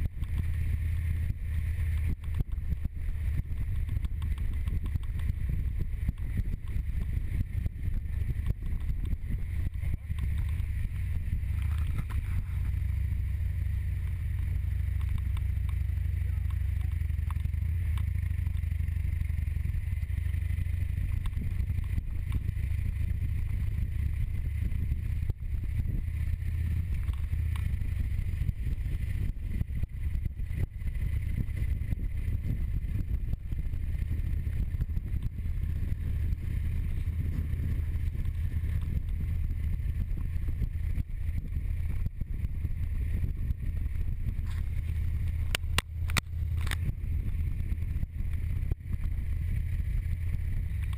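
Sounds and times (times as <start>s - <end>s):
wind rushing over microphone: 0.0s - 16.4s, 17.7s - 50.9s
motorcycle engine running: 0.0s - 50.9s.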